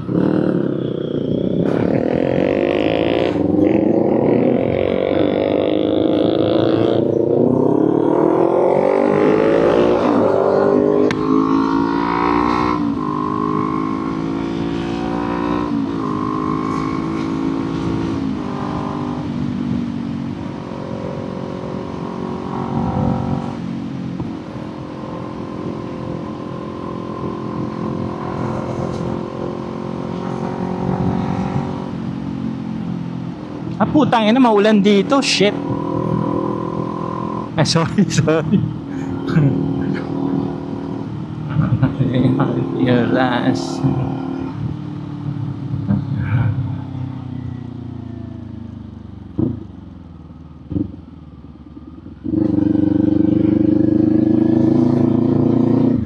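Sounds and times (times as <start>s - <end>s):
motorcycle engine shifting gears: 0.0s - 32.2s, 35.3s - 47.6s, 48.2s - 56.0s
wind and road noise: 0.0s - 56.0s.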